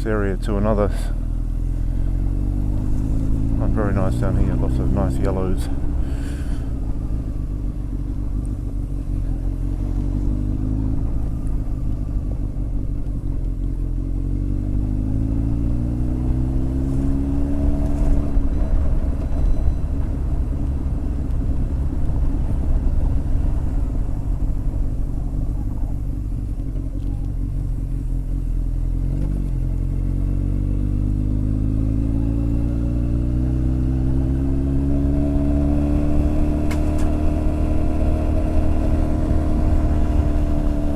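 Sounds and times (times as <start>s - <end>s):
motorcycle engine revving: 0.7s - 40.9s.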